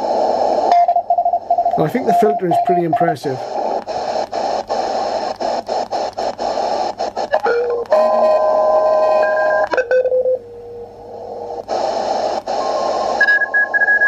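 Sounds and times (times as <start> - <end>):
radio band hiss: 0.0 - 9.7, 10.9 - 14.0.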